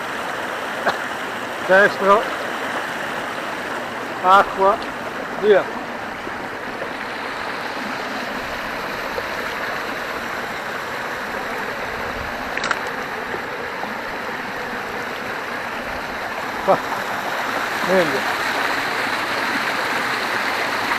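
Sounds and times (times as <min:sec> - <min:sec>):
stream water rushing: 0:00.0 - 0:20.9.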